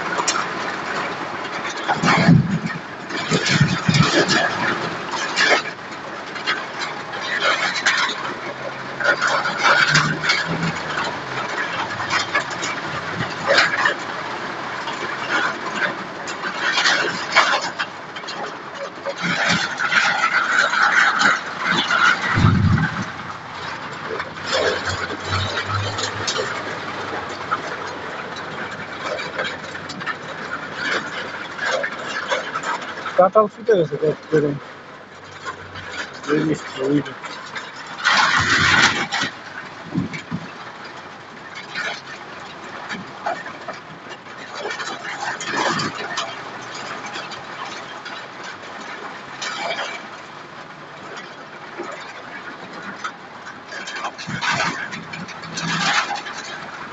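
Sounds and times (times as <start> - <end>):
floodwater rushing and splashing: 0.0 - 56.9
heavy rain: 0.0 - 56.9.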